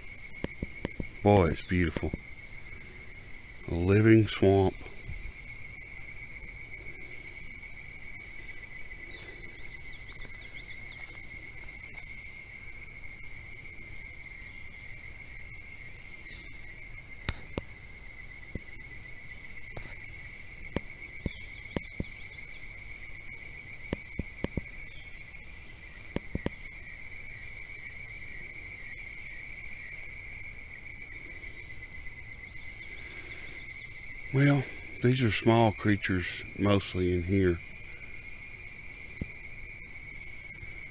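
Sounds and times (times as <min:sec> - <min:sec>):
fainter higher insect trill: 0:00.0 - 0:40.9
insect trill: 0:00.0 - 0:40.9.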